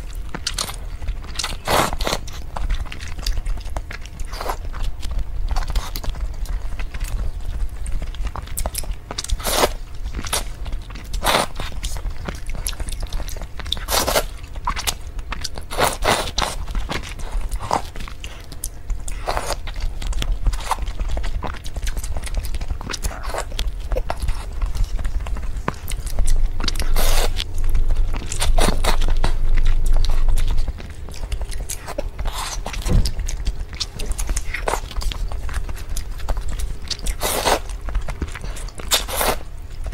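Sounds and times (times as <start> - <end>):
biting and chewing: 0.0 - 39.9
steady low hum: 0.0 - 39.9.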